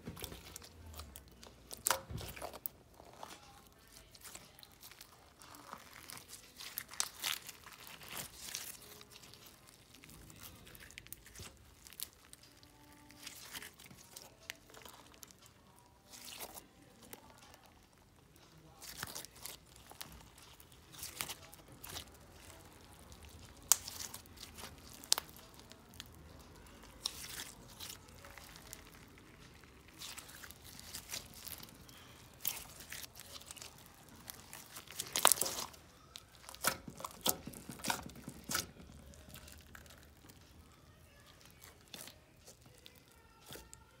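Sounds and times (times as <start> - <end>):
slime crackling and popping: 0.0 - 44.0.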